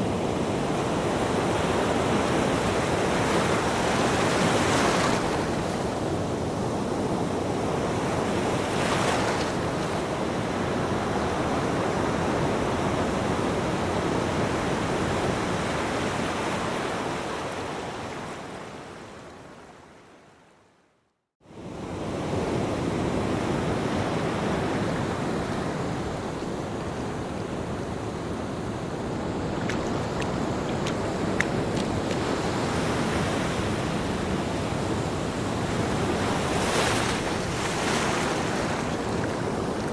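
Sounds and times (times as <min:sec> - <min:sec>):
waves breaking on a beach: 0:00.0 - 0:20.4, 0:21.4 - 0:39.9.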